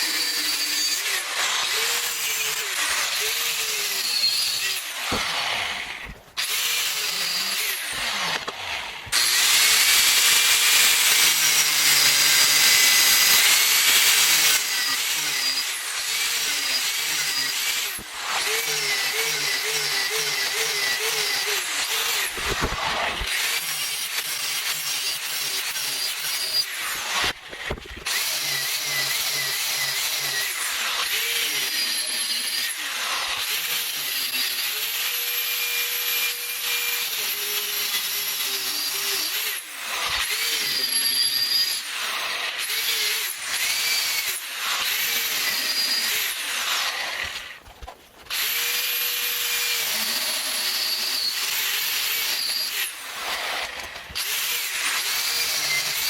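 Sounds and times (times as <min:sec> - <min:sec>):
power tool whining on steel: 0:00.0 - 0:56.0.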